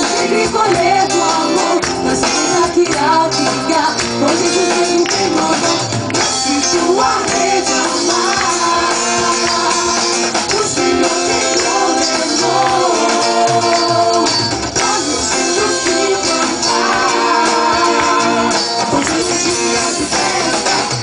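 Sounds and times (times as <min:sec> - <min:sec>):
gospel singing: 0:00.0 - 0:21.0.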